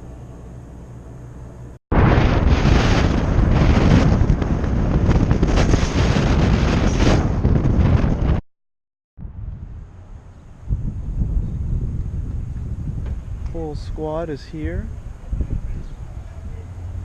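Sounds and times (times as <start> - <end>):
wind buffeting microphone: 1.9 - 8.4, 9.2 - 17.0.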